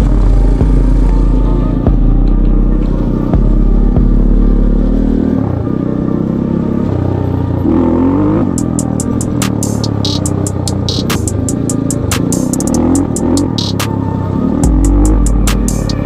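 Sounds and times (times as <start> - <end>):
electronic music beats: 0.0 - 5.0, 8.0 - 16.0
off-road vehicle engine: 0.0 - 16.0.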